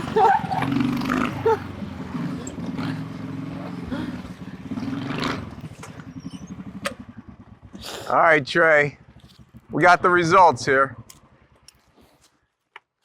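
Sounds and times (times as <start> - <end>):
go-kart engine idling: 0.0 - 12.2.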